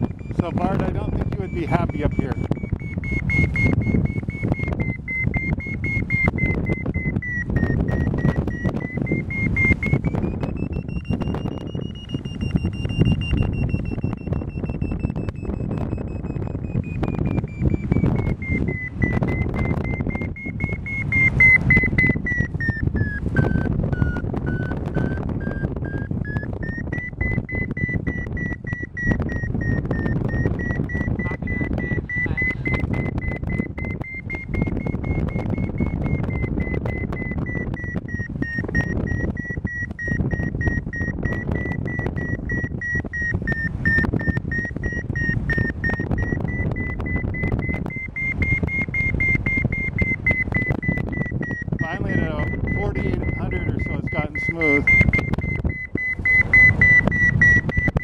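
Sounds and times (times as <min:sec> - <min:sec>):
variometer high tone: 0:00.0 - 0:58.0
wind noise on microphone: 0:00.0 - 0:58.0.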